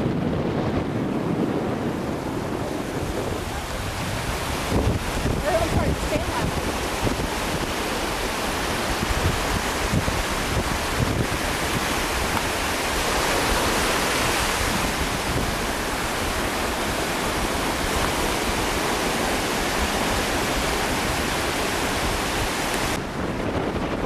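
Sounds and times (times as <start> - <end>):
ocean surf rushing: 0.0 - 24.0
wind buffeting microphone: 0.0 - 24.0.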